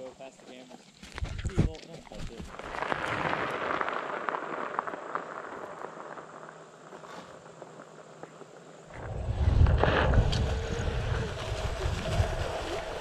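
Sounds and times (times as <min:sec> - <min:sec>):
wheels rolling on gravel: 0:00.0 - 0:13.0.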